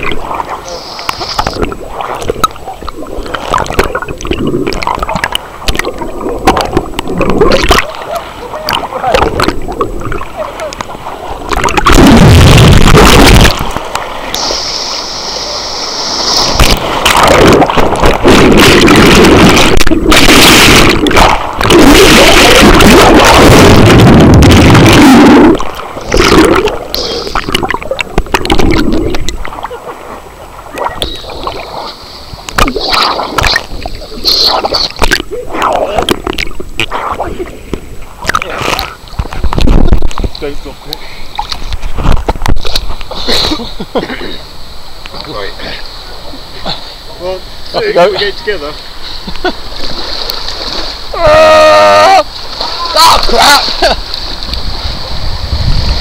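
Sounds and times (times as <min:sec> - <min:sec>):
water splashing and rushing: 0:00.0 - 0:56.0.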